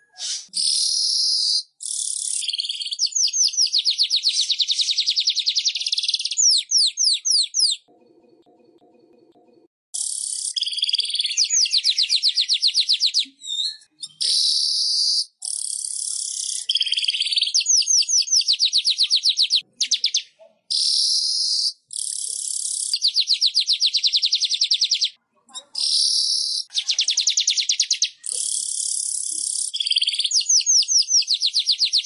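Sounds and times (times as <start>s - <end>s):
weaver bird singing: 0.0s - 7.8s, 10.0s - 32.0s.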